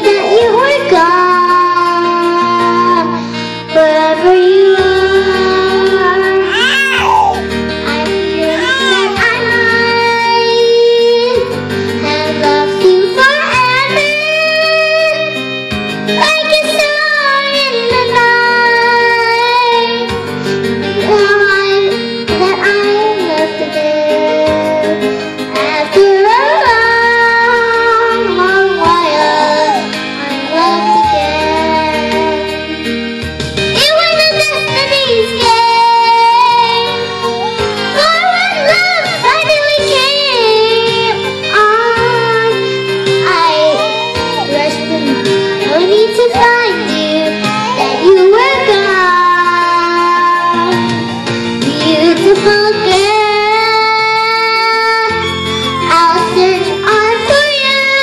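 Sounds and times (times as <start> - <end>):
girl singing into a microphone: 0.0 - 15.5, 16.1 - 32.9, 33.7 - 51.0, 51.6 - 58.0
instrumental backing track: 0.0 - 58.0.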